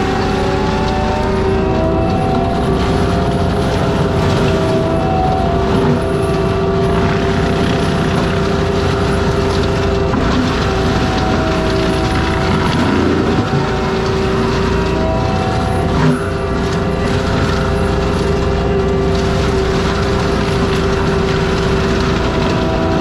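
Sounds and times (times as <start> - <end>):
forestry mulcher machine running: 0.0 - 23.0.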